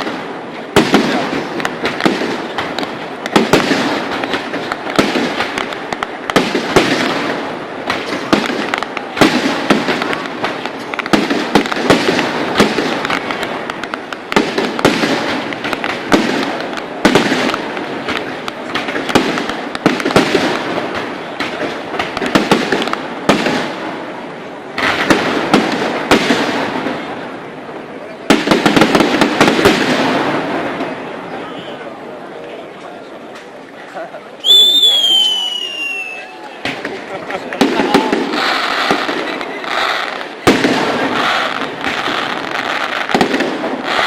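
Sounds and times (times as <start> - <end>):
fireworks bangs: 0.0 - 32.4, 34.4 - 44.0
fireworks crackling: 0.0 - 44.0.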